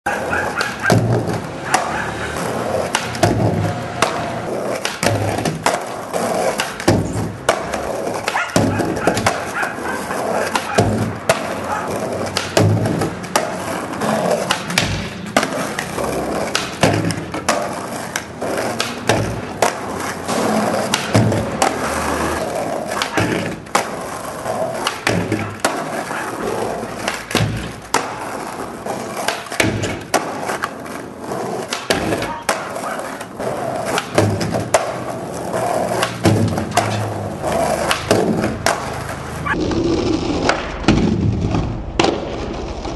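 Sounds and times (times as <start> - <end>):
skateboard clacking on ground: 0.1 - 39.6
skateboard wheels rolling: 0.1 - 42.9.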